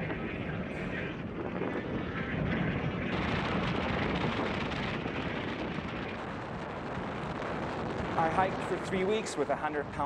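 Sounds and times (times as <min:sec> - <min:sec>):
storm wind on microphone: 0:00.0 - 0:10.0.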